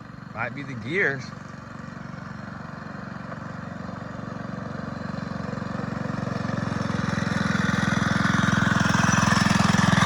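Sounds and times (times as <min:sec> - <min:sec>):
mini bike engine running: 0:00.0 - 0:10.0.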